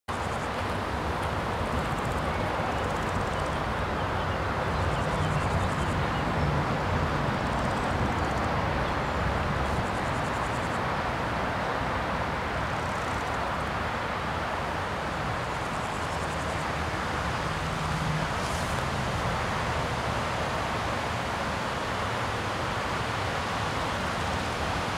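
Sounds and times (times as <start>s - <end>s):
steady rushing background noise: 0.1s - 24.9s.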